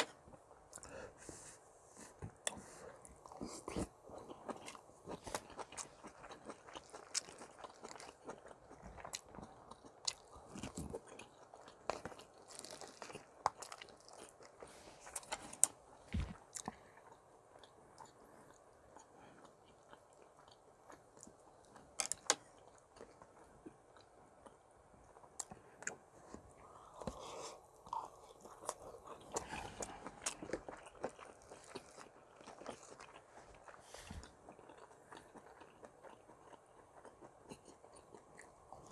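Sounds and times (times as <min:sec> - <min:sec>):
man chewing food: 0:00.0 - 0:38.9.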